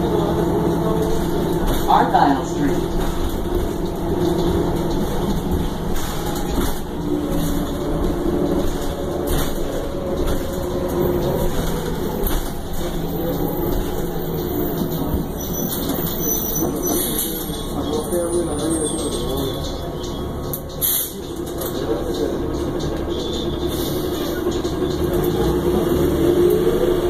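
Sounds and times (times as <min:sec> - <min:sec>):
bus engine running: 0:00.0 - 0:27.0
road noise: 0:00.0 - 0:27.0.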